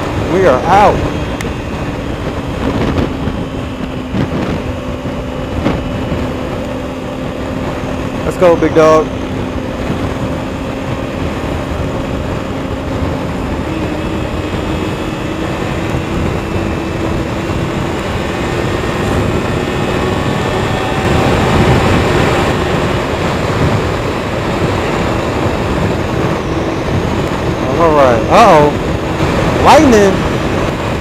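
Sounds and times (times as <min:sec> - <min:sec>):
motorcycle engine running: 0:00.0 - 0:31.0
wind rush on microphone: 0:00.0 - 0:31.0.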